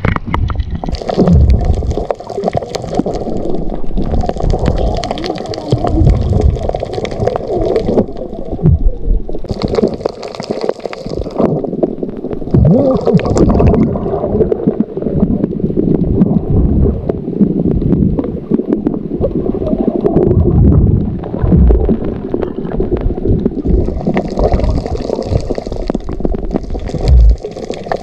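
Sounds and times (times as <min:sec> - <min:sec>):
water gurgling and sloshing: 0:00.0 - 0:28.0.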